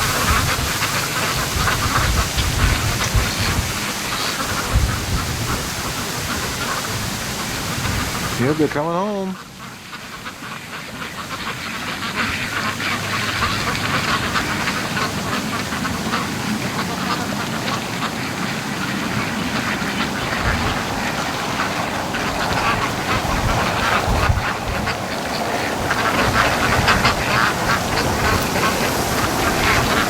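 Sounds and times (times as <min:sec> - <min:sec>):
ducks quacking: 0:00.0 - 0:30.0
wind gusting on microphone: 0:00.0 - 0:30.0.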